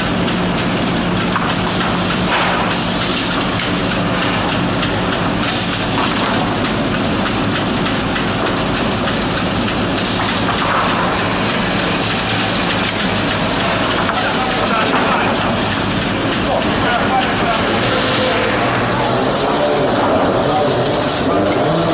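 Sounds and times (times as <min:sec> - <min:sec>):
low machine hum: 0:00.0 - 0:21.9
wood-processing machinery running: 0:00.0 - 0:21.9.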